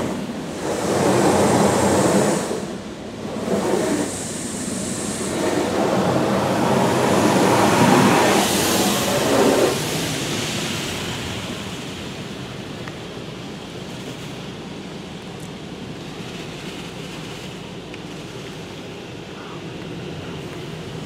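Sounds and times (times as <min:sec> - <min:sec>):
water jets spraying car: 0:00.0 - 0:21.0.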